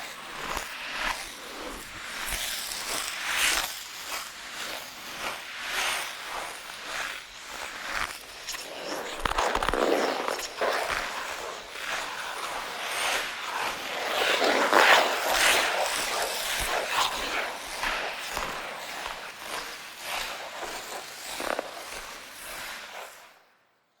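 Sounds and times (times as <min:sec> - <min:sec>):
ice skates scraping ice: 0:00.0 - 0:23.4.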